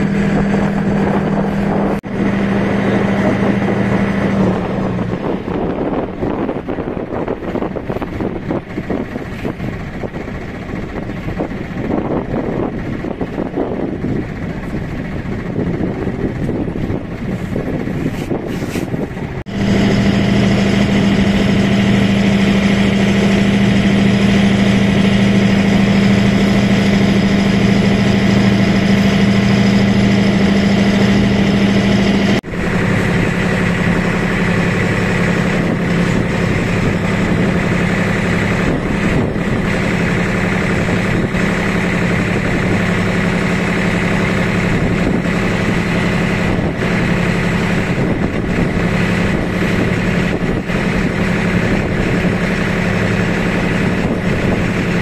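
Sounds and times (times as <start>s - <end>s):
motorboat engine humming: 0.0s - 55.0s
wind on microphone: 0.0s - 55.0s.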